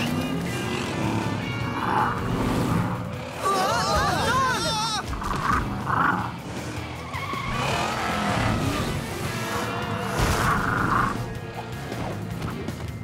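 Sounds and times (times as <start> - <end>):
action background music: 0.0 - 13.0
cartoon trucks driving fast: 0.0 - 13.0
tyres skidding: 0.0 - 13.0.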